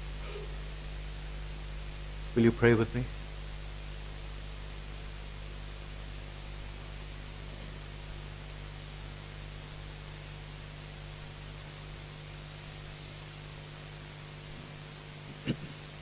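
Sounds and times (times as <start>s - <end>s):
low electrical hum: 0.0s - 16.0s
steady hiss: 0.0s - 16.0s.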